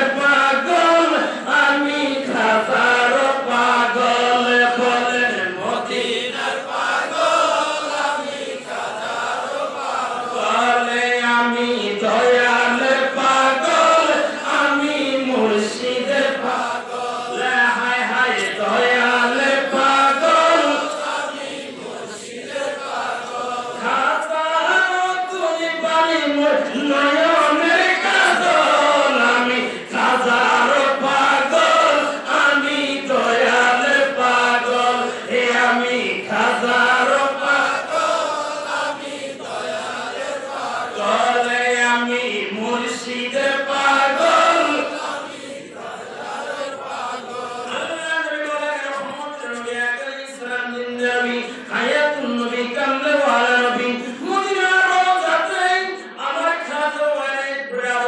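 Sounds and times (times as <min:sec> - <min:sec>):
man chanting over a pa system: 0:00.0 - 0:58.0.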